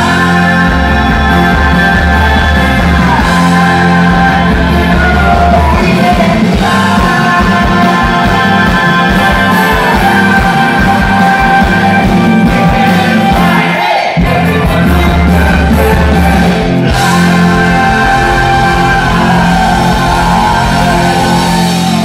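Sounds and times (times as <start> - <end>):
rock band playing live: 0.0 - 22.0
voices singing loudly together: 0.0 - 22.0.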